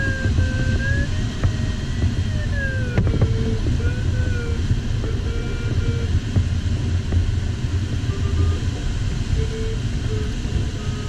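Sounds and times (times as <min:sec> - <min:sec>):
variometer pitched tones: 0:00.0 - 0:06.4, 0:07.7 - 0:11.0
cockpit airflow rumble: 0:00.0 - 0:11.0.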